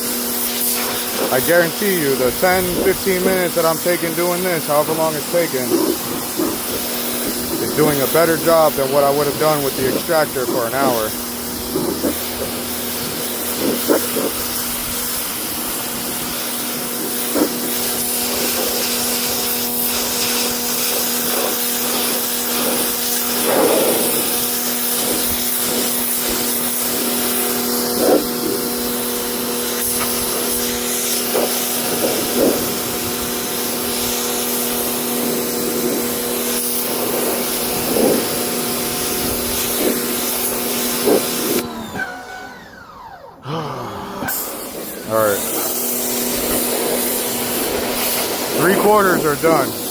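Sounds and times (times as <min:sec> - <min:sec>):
water spray hissing: 0:00.0 - 0:41.6, 0:44.2 - 0:49.9
pressure washer motor humming: 0:00.0 - 0:49.9.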